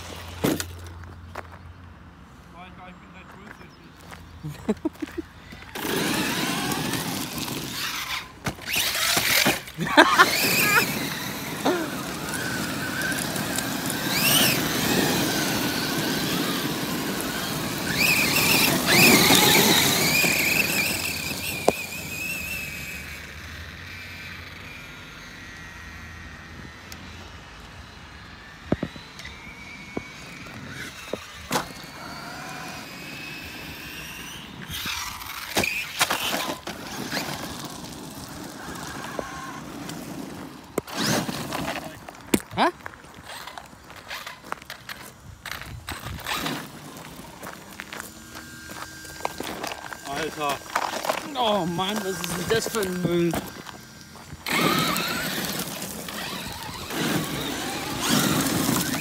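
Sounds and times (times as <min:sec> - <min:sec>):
wheels rushing over gravel: 0:00.0 - 0:01.8, 0:02.4 - 0:59.0
rc truck motor whine: 0:04.7 - 0:59.0.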